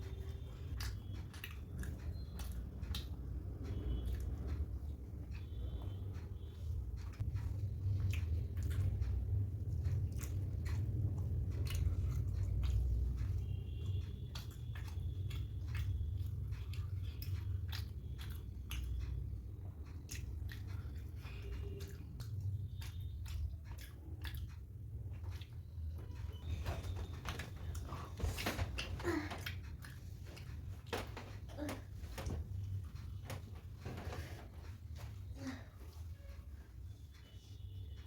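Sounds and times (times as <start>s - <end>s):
close chewing and mouth sounds: 0.0s - 38.0s
steady low hum: 0.0s - 38.0s.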